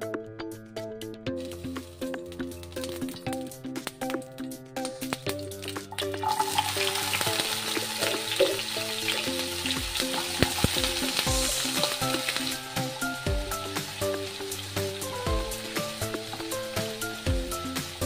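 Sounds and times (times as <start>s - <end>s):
potatoes sizzling in hot oil: 1.4s - 18.0s.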